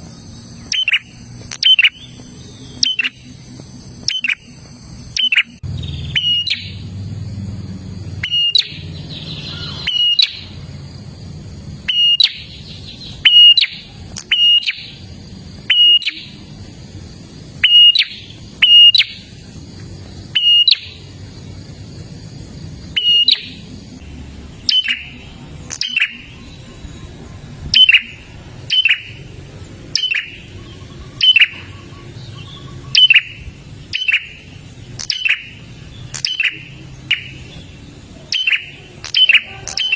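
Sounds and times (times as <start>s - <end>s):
bird calling sharp downward notes: 0.0s - 7.1s, 8.1s - 10.7s, 11.8s - 16.8s, 17.5s - 19.5s, 20.3s - 21.2s, 22.8s - 39.9s
faint steady hum: 0.0s - 39.9s.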